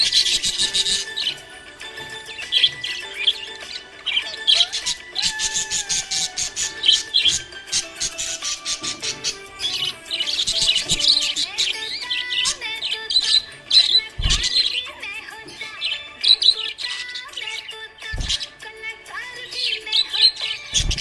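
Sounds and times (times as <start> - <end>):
budgerigars chirping and warbling: 0.0 - 21.0.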